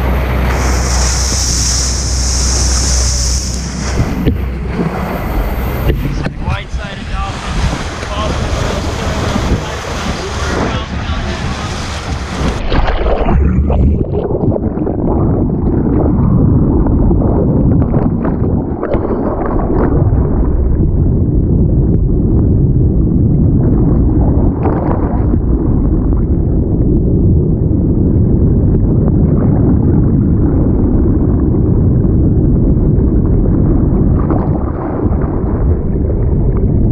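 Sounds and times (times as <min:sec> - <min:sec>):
bubbling and splashing: 0:00.0 - 0:36.9
muffled underwater rush: 0:00.0 - 0:36.9.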